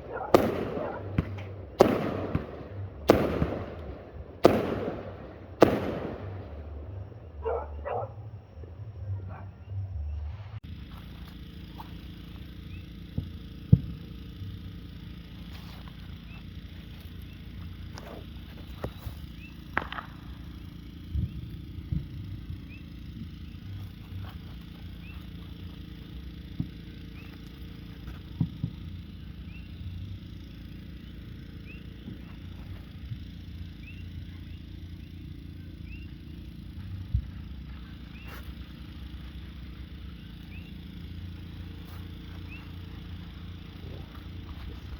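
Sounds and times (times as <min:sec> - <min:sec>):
firework bangs: 0:00.0 - 0:08.2, 0:10.8 - 0:44.9
low background hum: 0:00.0 - 0:44.9.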